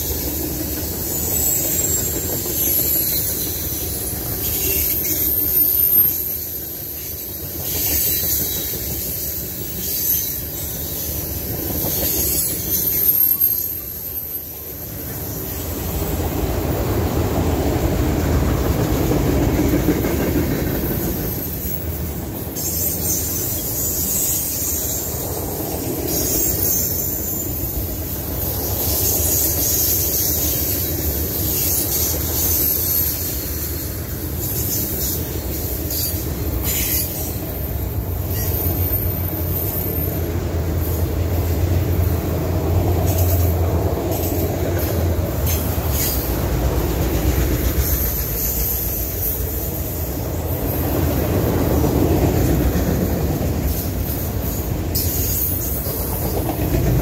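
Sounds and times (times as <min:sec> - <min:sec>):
high wheel squeal: 0:00.0 - 0:16.8, 0:20.6 - 0:57.0
train wheels rumbling on rails: 0:00.0 - 0:57.0.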